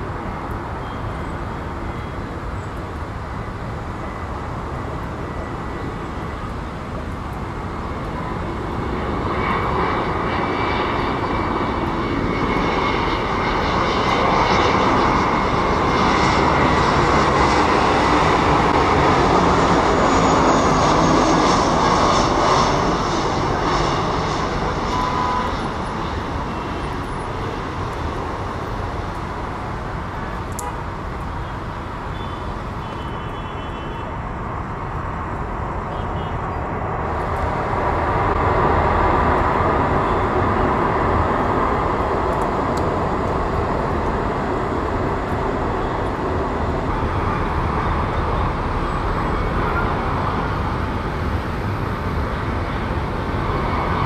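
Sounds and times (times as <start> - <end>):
jet airliner engines rumbling: 0.0 - 54.0.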